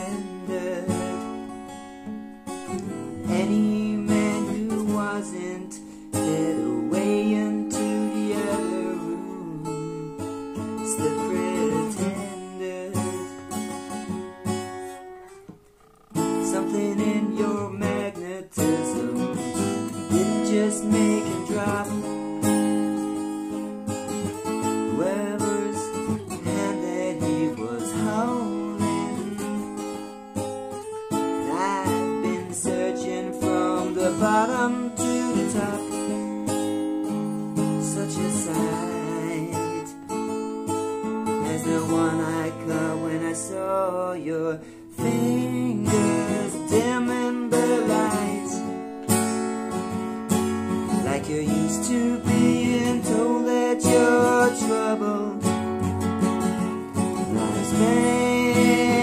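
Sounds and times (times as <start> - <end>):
man singing: 0.0 - 1.8, 2.7 - 14.4, 16.2 - 22.8, 23.5 - 30.1, 31.1 - 49.6, 50.6 - 59.0
acoustic guitar strumming: 0.0 - 59.0.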